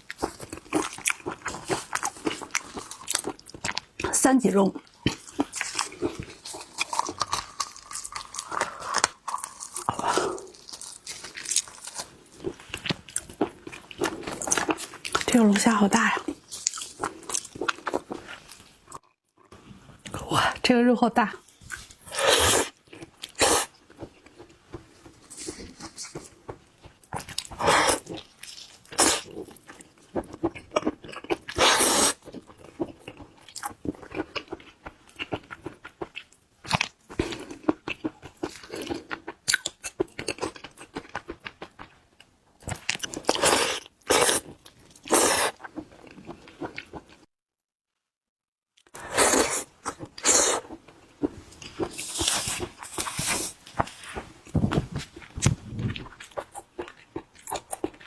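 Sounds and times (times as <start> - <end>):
crunching and wet chewing: 0.0 - 4.1, 4.7 - 15.3, 16.2 - 19.1, 21.4 - 47.3, 48.9 - 54.3, 55.0 - 58.0.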